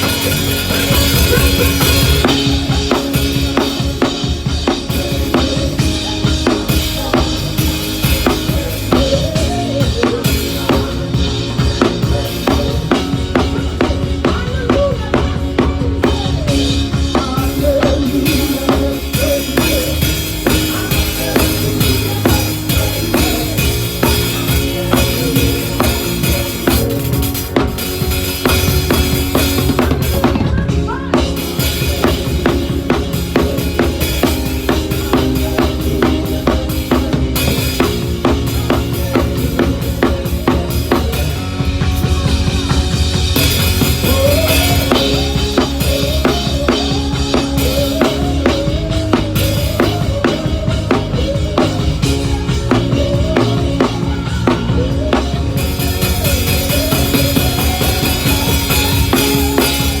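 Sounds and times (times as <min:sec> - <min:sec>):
drum kit groove: 0:00.0 - 1:00.0
melody with bending notes: 0:00.0 - 1:00.0
sustained bass and chords: 0:00.0 - 1:00.0.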